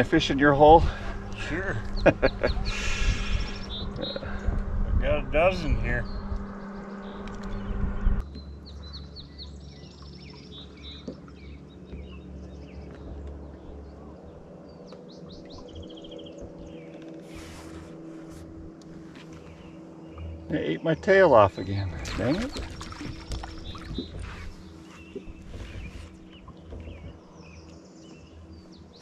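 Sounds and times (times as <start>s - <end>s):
low steady rumble: 0.0s - 29.0s
small birds chirping and trilling: 0.0s - 29.0s.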